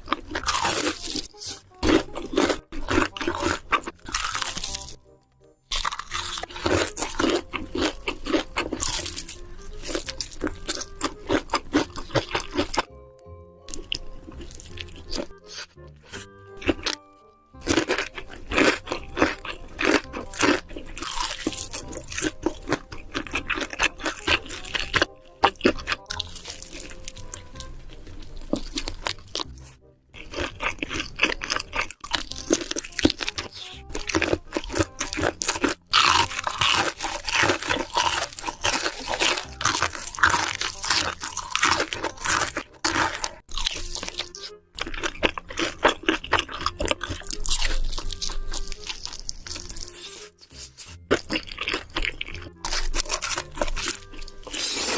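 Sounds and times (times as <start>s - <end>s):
person chewing crunchy food: 0.0s - 13.0s, 13.7s - 54.9s
background music: 0.0s - 54.9s.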